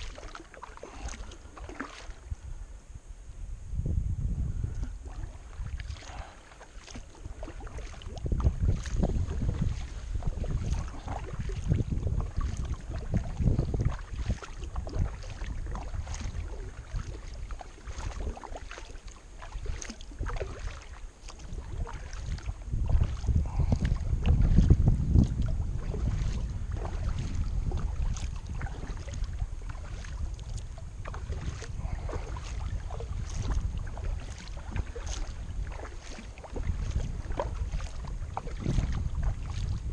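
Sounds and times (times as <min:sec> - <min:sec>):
paddle splashing in water: 0:00.0 - 0:02.5, 0:04.6 - 0:39.9
wind buffeting microphone: 0:00.0 - 0:39.9.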